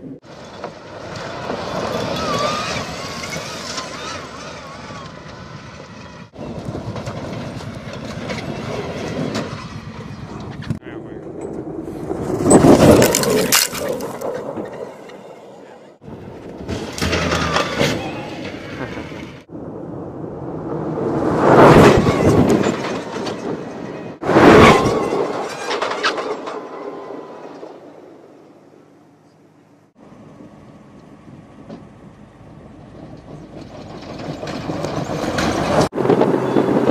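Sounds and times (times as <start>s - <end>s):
electric car drive and tyre noise: 0.0s - 36.9s.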